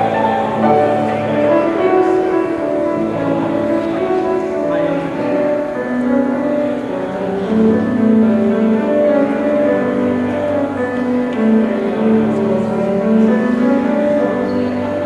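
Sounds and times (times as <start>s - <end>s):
cello playing slow melody: 0.0s - 15.0s
piano: 0.0s - 15.0s.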